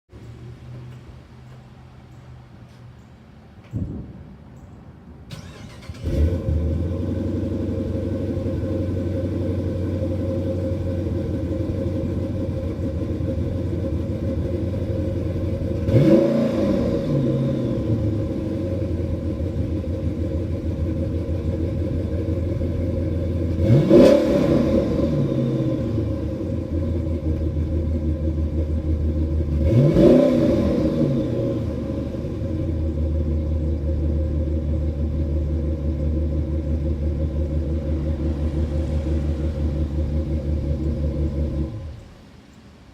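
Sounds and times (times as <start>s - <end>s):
car engine idling and revving: 0.1s - 3.8s, 5.3s - 42.6s.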